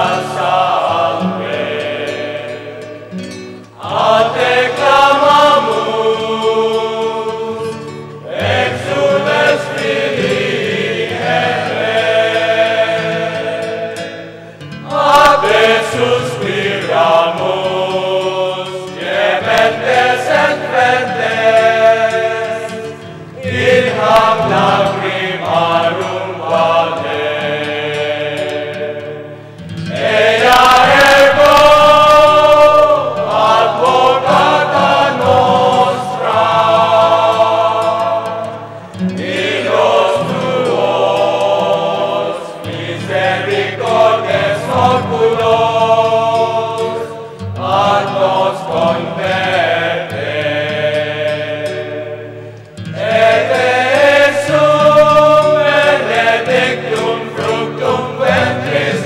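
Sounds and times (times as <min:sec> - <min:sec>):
choir singing a slow chant: 0:00.0 - 0:59.0.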